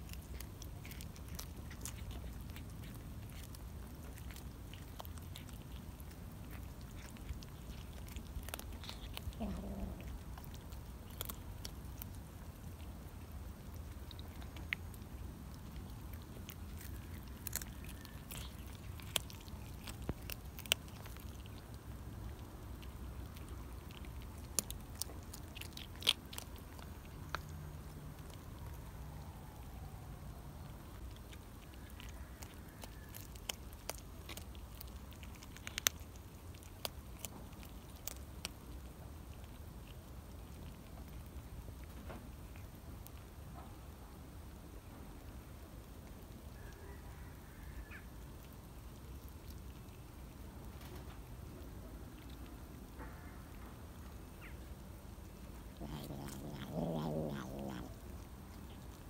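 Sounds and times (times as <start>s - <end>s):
kittens biting and chewing: 0.0s - 59.0s.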